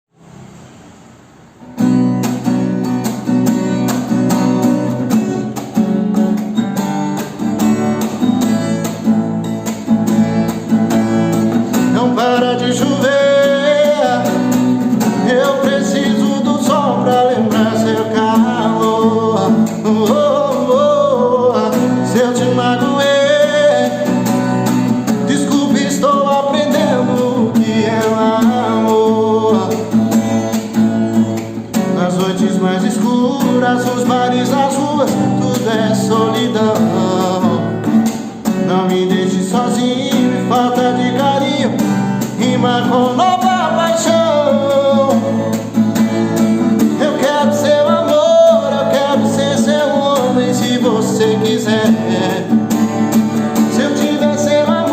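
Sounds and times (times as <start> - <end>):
acoustic guitar strumming: 0.1 - 54.9.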